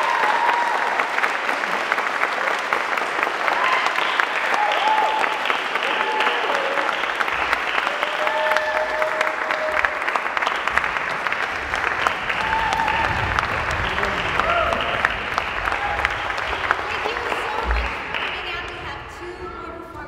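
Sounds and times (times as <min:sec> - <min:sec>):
audience clapping: 0:00.0 - 0:19.9.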